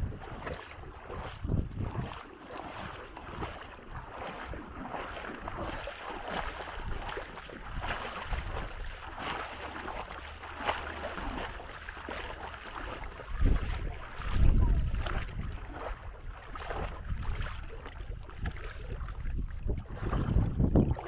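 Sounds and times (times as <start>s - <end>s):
waves washing on shore: 0.0s - 21.0s
wind rumbling on microphone: 0.0s - 21.0s.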